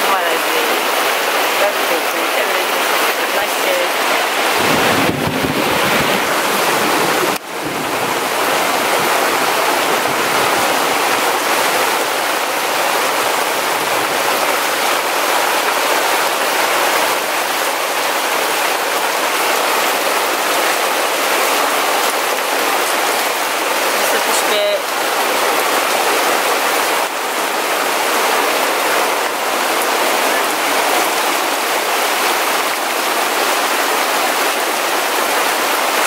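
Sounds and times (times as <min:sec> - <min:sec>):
heavy rain on forest floor: 0:00.0 - 0:36.0
rain on a tarp: 0:00.0 - 0:36.0.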